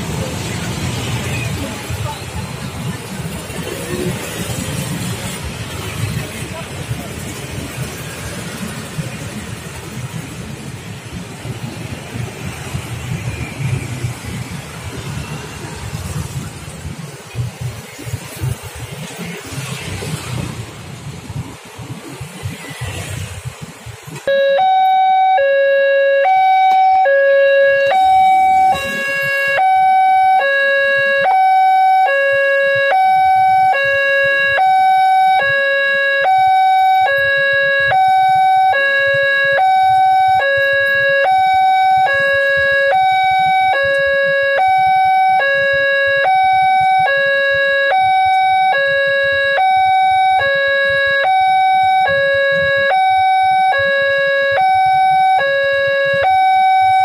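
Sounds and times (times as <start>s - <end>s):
faint motorbike traffic: 0.0s - 57.0s.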